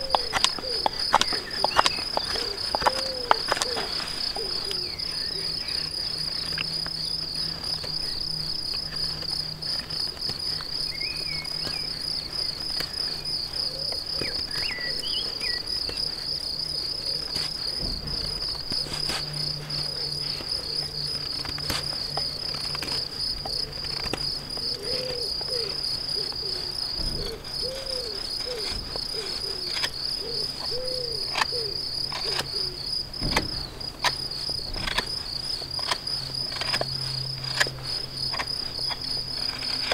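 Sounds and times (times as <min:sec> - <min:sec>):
insect trilling: 0:00.0 - 0:39.9.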